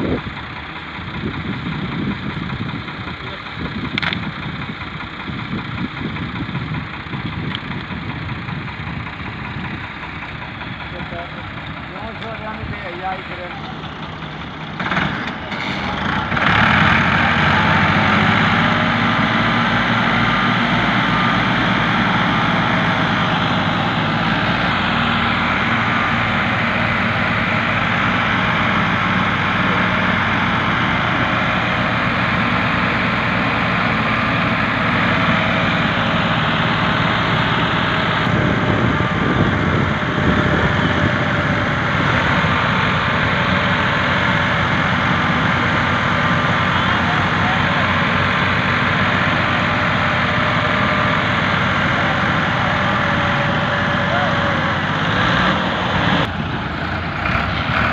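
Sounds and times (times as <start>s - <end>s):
diesel tractor engines under load: 0.0s - 57.9s.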